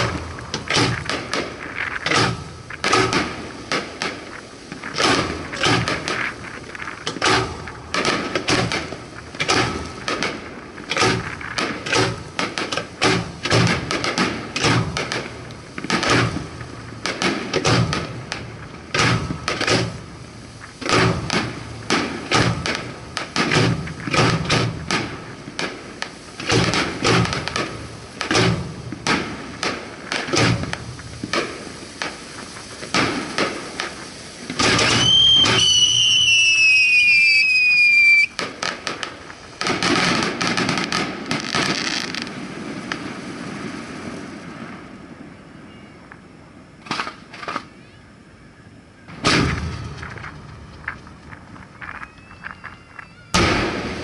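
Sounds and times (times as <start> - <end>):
firework bangs and crackles: 0.0 - 54.0
whistling firework: 0.0 - 54.0.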